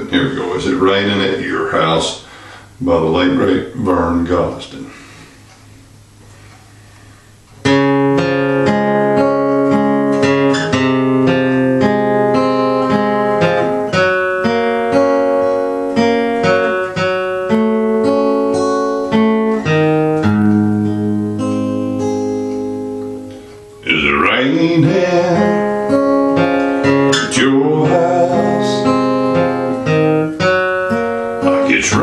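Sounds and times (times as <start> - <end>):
acoustic guitar strummed: 0.0 - 2.6, 5.3 - 32.0.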